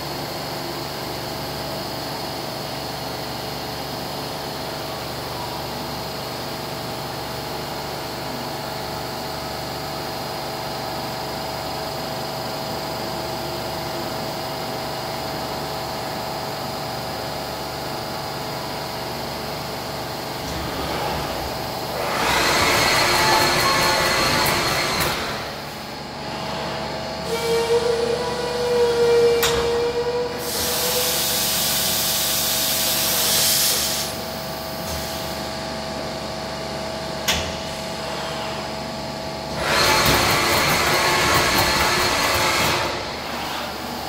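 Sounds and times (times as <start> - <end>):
milling machine hum and whine: 0.0 - 44.0.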